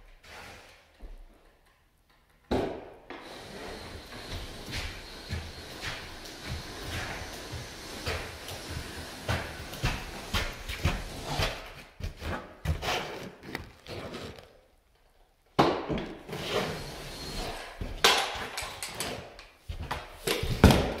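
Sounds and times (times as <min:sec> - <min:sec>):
drywall tool clunking and scraping: 0:00.0 - 0:14.5, 0:15.6 - 0:21.0.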